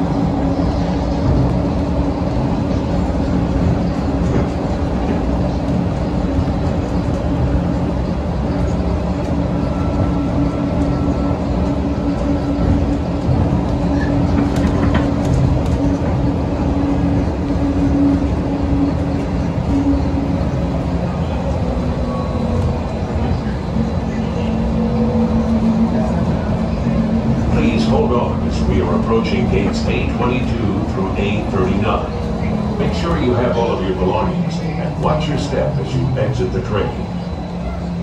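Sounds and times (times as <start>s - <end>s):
droning hum: 0.0s - 38.0s
jet aircraft roar: 0.0s - 38.0s.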